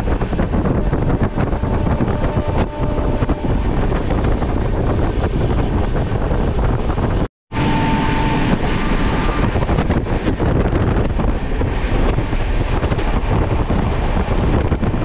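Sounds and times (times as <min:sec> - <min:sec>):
train running rumble: 0:00.0 - 0:15.0
wind buffeting microphone: 0:00.0 - 0:15.0.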